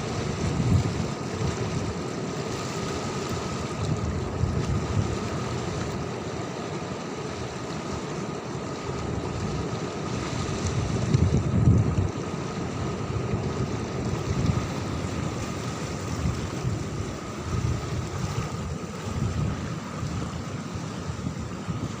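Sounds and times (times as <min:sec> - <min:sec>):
surf washing on a beach: 0:00.0 - 0:22.0
wind rumbling on microphone: 0:00.0 - 0:22.0.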